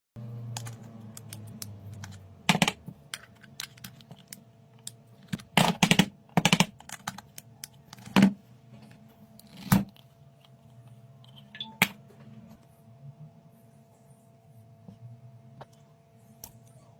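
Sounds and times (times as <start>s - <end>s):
faint steady hum: 0.2s - 16.9s.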